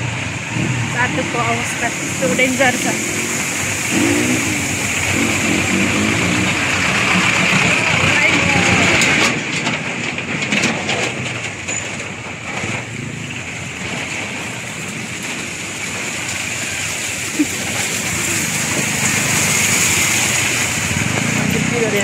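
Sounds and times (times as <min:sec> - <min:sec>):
tyres hissing through water and stone: 0:00.0 - 0:09.3, 0:13.0 - 0:22.0
vehicle engine: 0:00.0 - 0:22.0.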